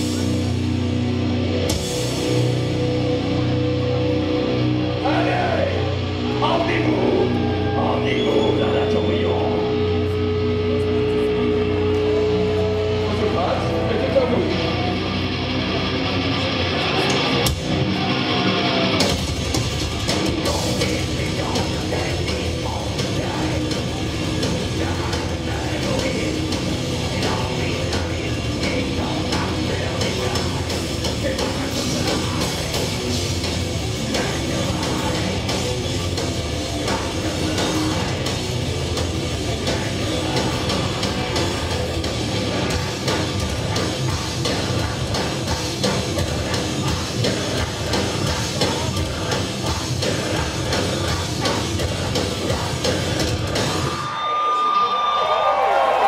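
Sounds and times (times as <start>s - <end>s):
pounding drum kit: 0.0s - 10.1s, 11.7s - 54.2s
bass guitar: 0.0s - 54.3s
distorted electric guitars: 0.0s - 56.0s.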